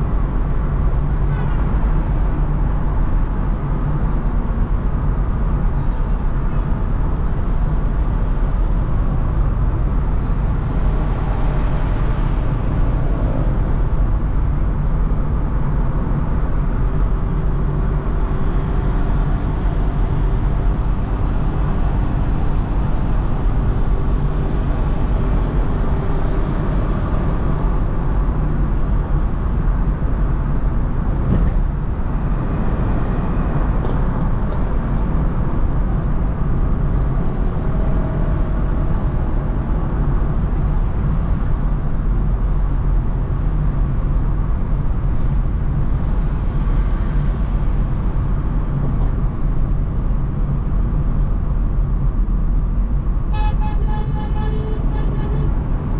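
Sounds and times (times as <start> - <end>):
car engine and tyre rumble: 0.0 - 55.9.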